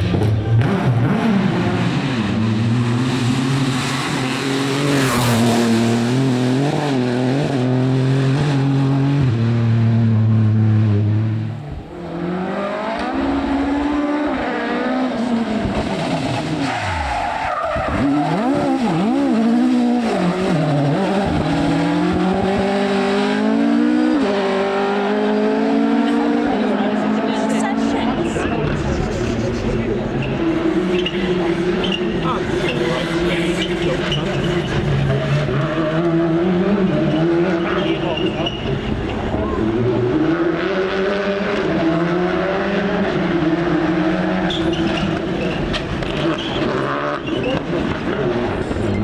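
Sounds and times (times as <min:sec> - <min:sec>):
rally car engine revving: 0:00.0 - 0:49.0.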